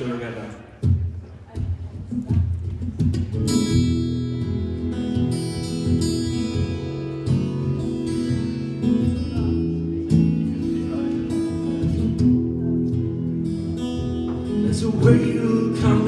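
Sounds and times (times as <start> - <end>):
acoustic guitar playing: 0.8 - 16.0.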